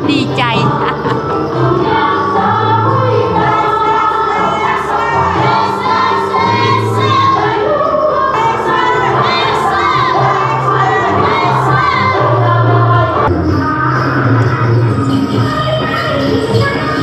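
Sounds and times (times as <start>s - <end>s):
dance music: 0.0s - 17.0s
group of voices singing: 0.0s - 17.0s.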